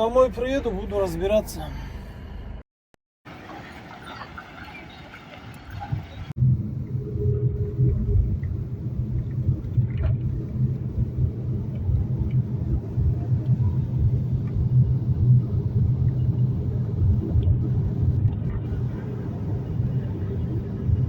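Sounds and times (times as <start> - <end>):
road noise: 0.0 - 2.6, 3.2 - 21.0
van engine rumble: 0.0 - 2.6, 3.3 - 21.0.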